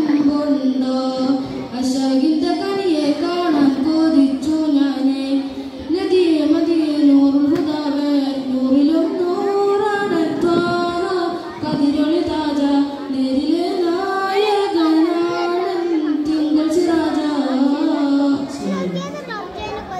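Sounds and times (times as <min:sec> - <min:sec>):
boy singing into microphone: 0:00.0 - 0:19.9.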